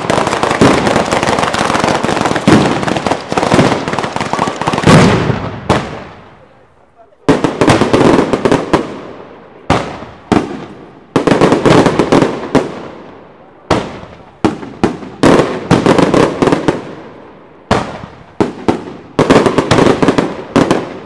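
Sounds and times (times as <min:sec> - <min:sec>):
firecrackers banging: 0:00.0 - 0:21.0.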